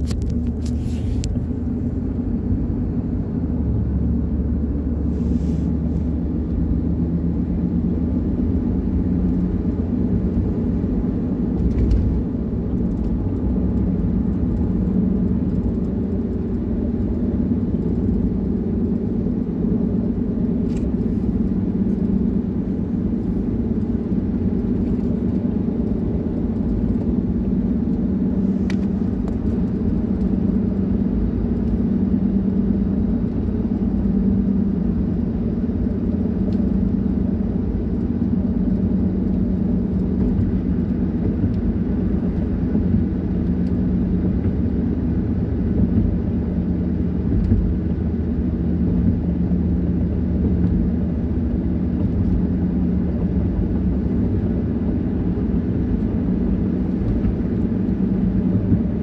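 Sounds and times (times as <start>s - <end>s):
car cabin road and engine noise: 0.0s - 59.0s.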